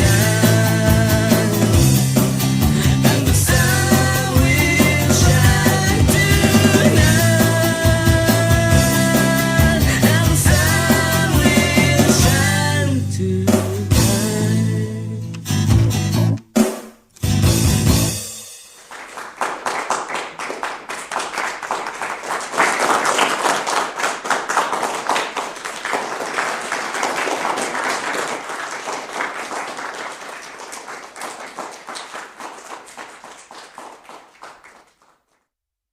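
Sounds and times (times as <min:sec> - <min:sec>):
audience applauding: 0:00.0 - 0:12.2, 0:18.8 - 0:35.4.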